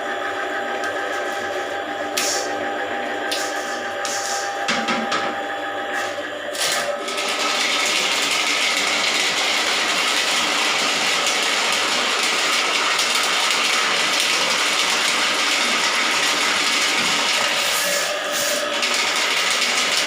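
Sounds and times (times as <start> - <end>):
drain-cleaning machine running: 0.0 - 20.0.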